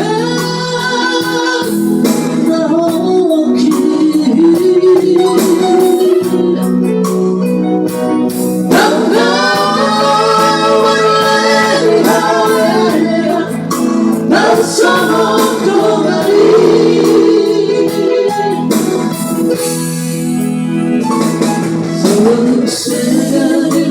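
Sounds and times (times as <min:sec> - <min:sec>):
person singing: 0:00.0 - 0:06.8, 0:08.7 - 0:18.8, 0:21.7 - 0:23.9
instrumental backing music: 0:00.0 - 0:23.9.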